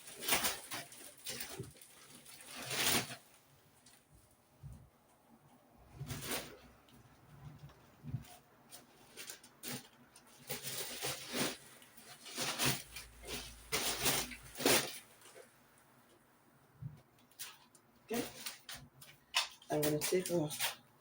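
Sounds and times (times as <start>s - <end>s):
rustles and knocks of handling: 0.0s - 20.9s.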